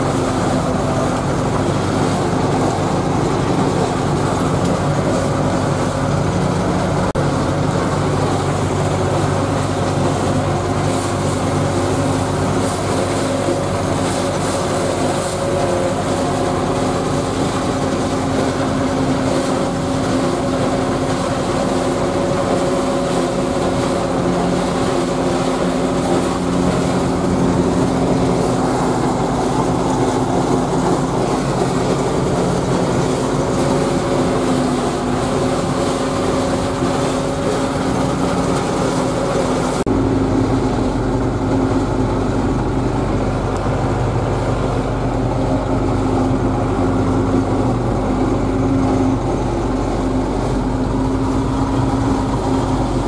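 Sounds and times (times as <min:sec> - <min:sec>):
forage harvester chopping: 0:00.0 - 0:53.0
tractor diesel engine running: 0:00.0 - 0:53.0.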